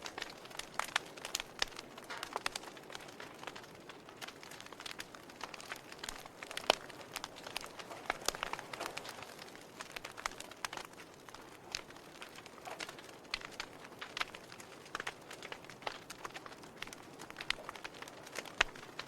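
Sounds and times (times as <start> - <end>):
campfire crackling and popping: 0.0 - 19.0
soft fire hiss: 0.0 - 19.0.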